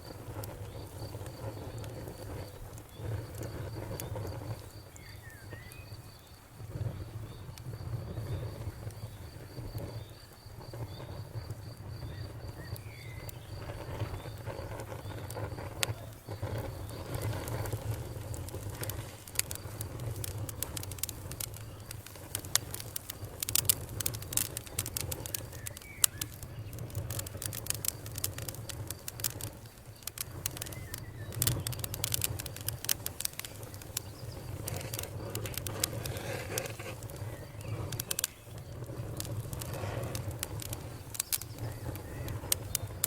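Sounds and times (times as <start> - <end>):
campfire crackling and popping: 0.0 - 43.0
low rumble of burning: 0.0 - 43.0.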